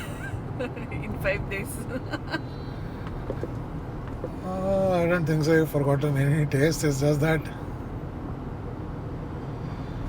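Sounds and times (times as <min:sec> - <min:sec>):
car interior driving rumble: 0:00.0 - 0:10.0.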